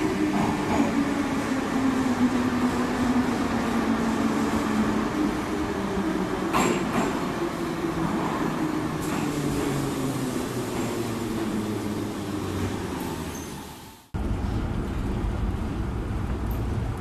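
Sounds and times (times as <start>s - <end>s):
metro train slowing: 0.0s - 17.0s.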